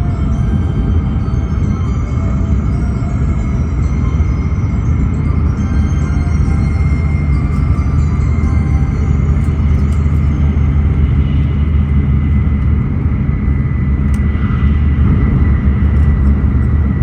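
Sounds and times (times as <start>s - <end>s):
thin high whine: 0.0s - 17.0s
train cabin low rumble: 0.0s - 17.0s.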